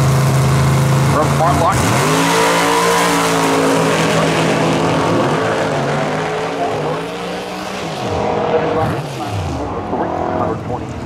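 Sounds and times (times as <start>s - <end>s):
engines at full throttle: 0.0s - 11.0s.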